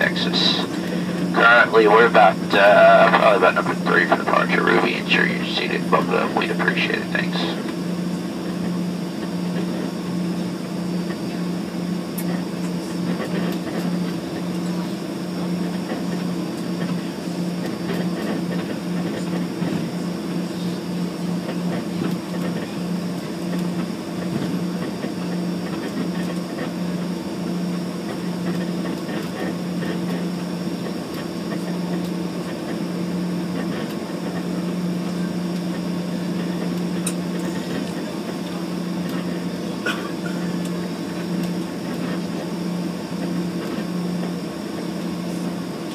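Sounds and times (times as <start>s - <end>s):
airliner engines droning: 0.0s - 45.9s.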